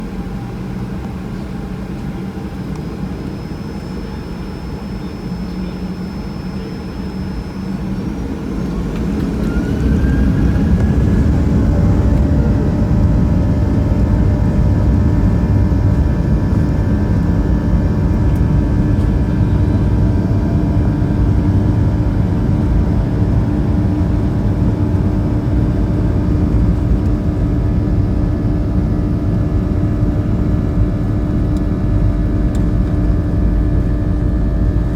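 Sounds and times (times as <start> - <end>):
jet engines whining in cabin: 0.0 - 34.9.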